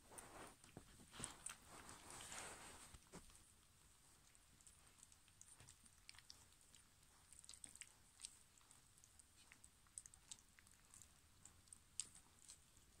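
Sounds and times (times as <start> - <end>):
puppies suckling: 0.2 - 13.0.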